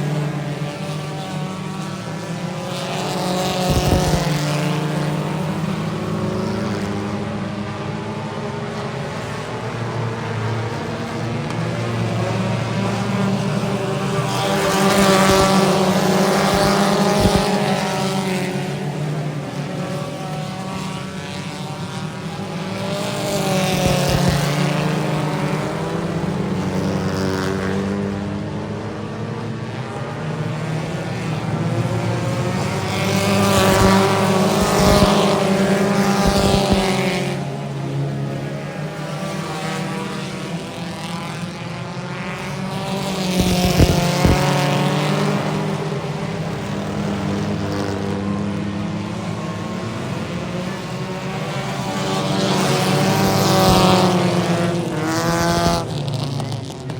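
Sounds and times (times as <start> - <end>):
race car engines passing: 0.0 - 56.9.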